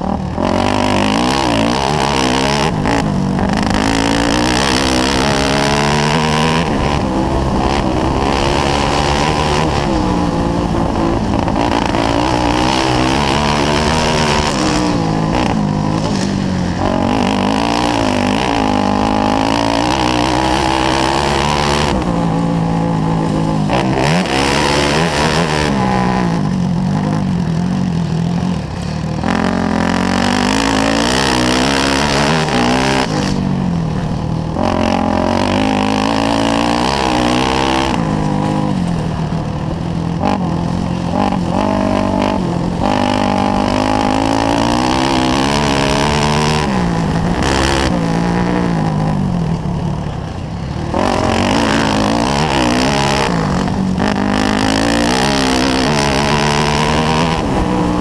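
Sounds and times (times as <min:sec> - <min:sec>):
motorcycle engine revving hard: 0:00.0 - 0:58.0.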